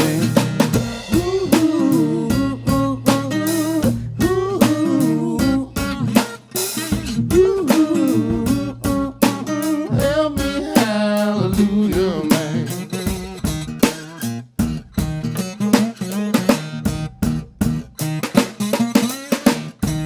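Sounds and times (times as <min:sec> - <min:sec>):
drum kit: 0:00.0 - 0:20.0
guitar with bending notes: 0:00.0 - 0:20.0.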